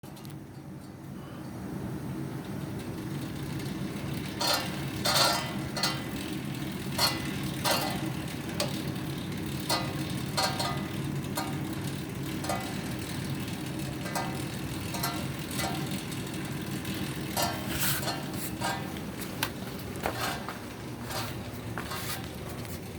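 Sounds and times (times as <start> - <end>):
exercise bike fan whir: 0.0 - 22.9.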